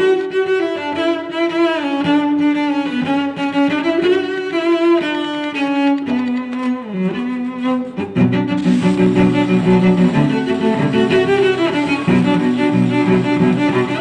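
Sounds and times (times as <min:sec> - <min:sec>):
bowed strings slow melody: 0:00.0 - 0:14.0.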